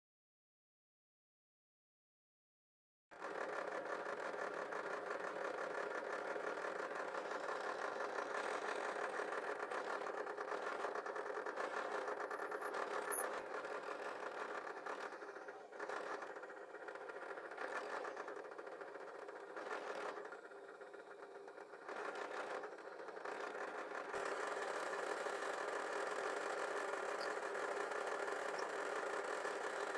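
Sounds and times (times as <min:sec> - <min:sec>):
drill press boring wood: 0:03.2 - 0:29.9.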